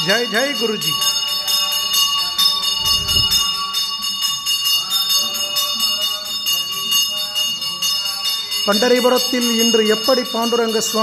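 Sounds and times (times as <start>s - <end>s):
temple bells ringing: 0.0s - 11.0s.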